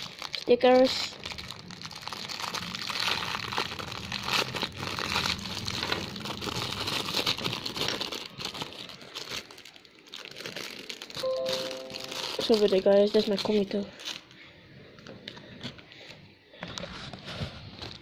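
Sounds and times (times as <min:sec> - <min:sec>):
plastic packaging crinkling: 0:00.0 - 0:15.8.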